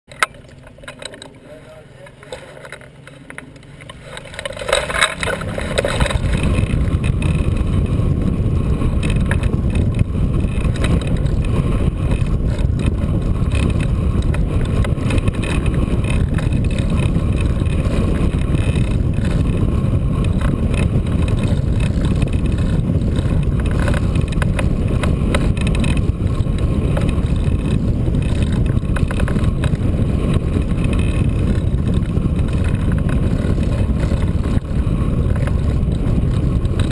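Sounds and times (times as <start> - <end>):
wind buffeting microphone: 3.7 - 36.9.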